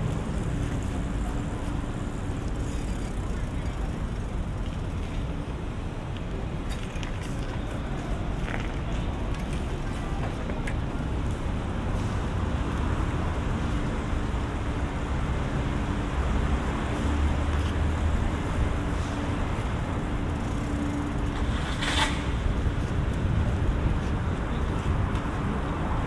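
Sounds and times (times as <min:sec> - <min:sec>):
rumble of cars: 0:00.0 - 0:26.0.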